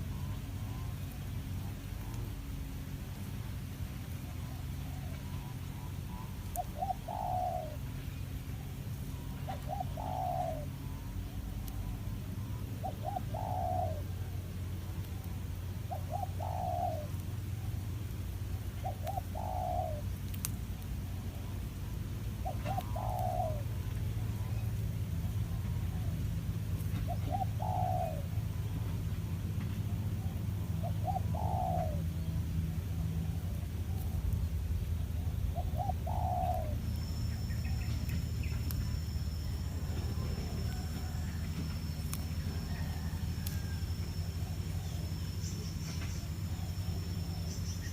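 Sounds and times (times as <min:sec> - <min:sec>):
faint high-pitched whine: 0:00.0 - 0:47.9
steady low hum: 0:00.0 - 0:47.9
steady low rumble: 0:00.0 - 0:47.9
dove cooing: 0:04.0 - 0:29.0, 0:30.1 - 0:32.2, 0:32.9 - 0:47.9
bird calling: 0:04.0 - 0:29.1, 0:30.1 - 0:47.9.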